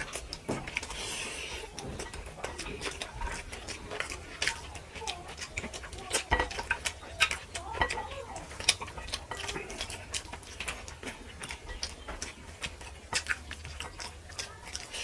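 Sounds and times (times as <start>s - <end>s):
lip smacks: 0.0s - 15.0s
mouth clicks: 0.0s - 15.0s
wet chewing: 0.0s - 15.0s.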